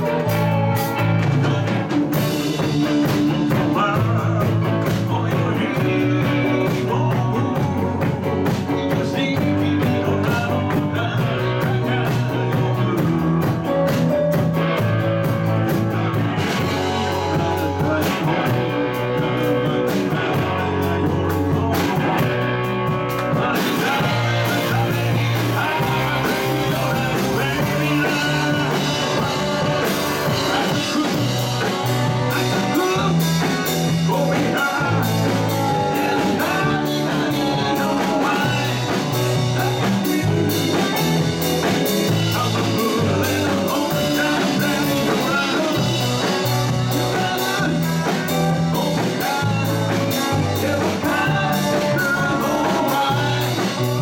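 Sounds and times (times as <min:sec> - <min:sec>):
man singing: 0:00.0 - 0:54.0
rock band playing: 0:00.0 - 0:54.0.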